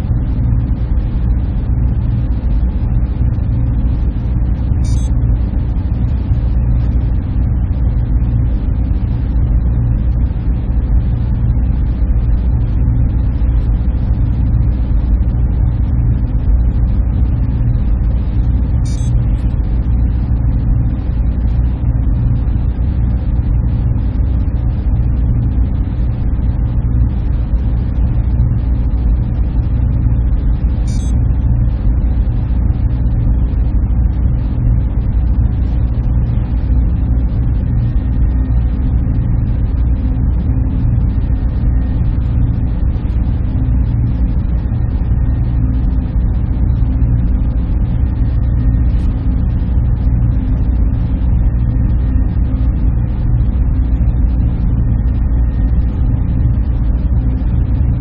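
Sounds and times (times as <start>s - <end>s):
faint whining tones: 0.0s - 58.0s
server room machines humming: 0.0s - 58.0s.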